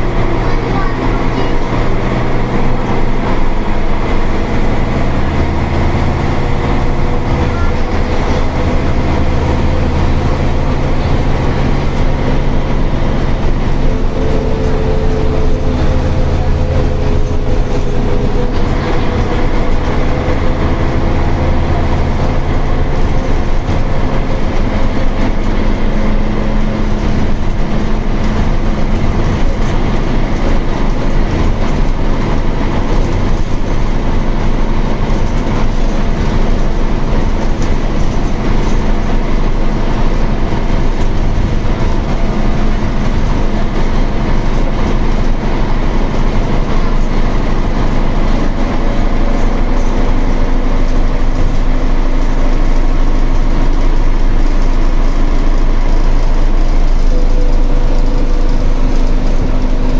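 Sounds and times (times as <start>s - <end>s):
bus diesel engine running: 0.0s - 59.9s
road and body noise: 0.0s - 59.9s.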